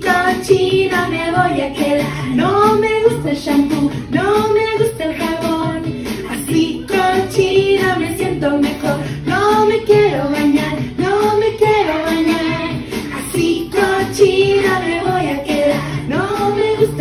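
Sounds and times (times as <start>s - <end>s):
children's song singing: 0.0s - 17.0s.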